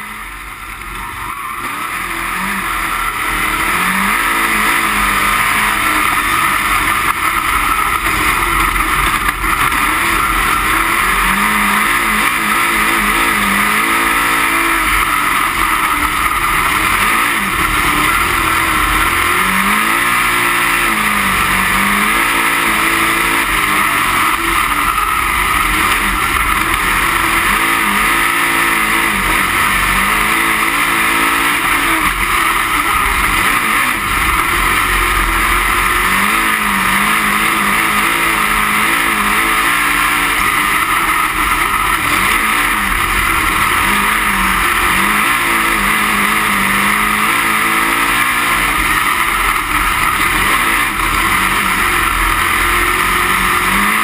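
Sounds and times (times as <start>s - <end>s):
race car engine: 0.0s - 54.0s
wind and car rumble: 0.0s - 54.0s.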